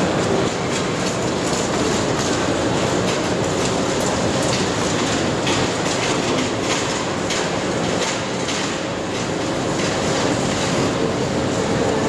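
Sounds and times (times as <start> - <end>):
rumble and hiss of trains: 0.0 - 12.0.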